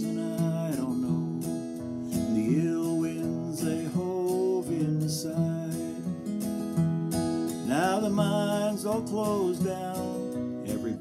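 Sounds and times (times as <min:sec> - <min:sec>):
acoustic guitar strummed: 0:00.0 - 0:11.0.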